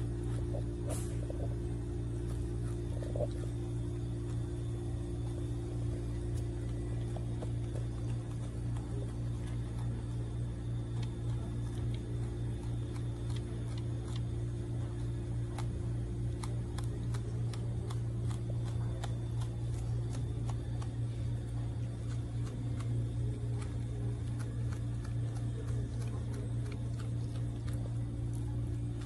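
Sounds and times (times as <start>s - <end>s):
animal chewing plant stems: 0.0s - 29.0s
low mechanical hum: 0.0s - 29.0s.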